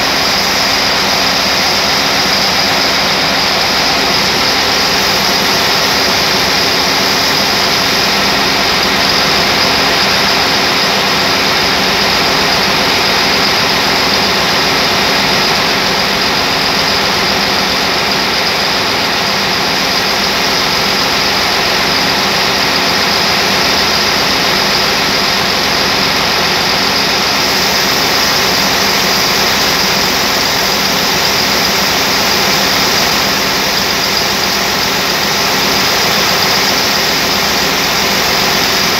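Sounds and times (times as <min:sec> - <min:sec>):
engine running steadily: 0:00.0 - 0:38.9
high whine: 0:00.0 - 0:38.9.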